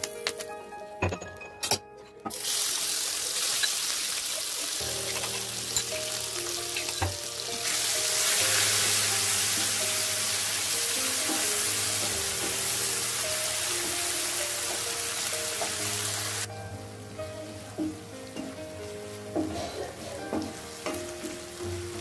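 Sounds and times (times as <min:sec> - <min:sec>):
onions sizzling in hot oil: 0:02.3 - 0:22.0.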